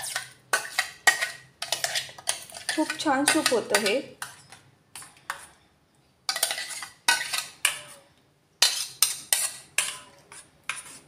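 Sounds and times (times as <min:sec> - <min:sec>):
spoon scraping metal pot: 0:00.0 - 0:05.6, 0:06.3 - 0:11.0.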